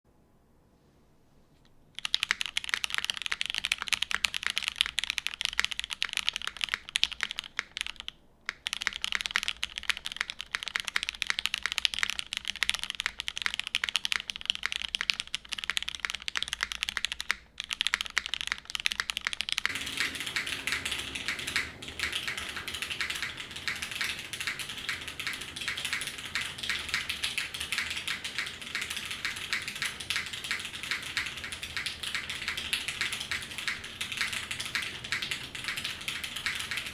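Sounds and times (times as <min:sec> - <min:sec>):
mechanical keyboard typing: 0:02.0 - 0:36.9.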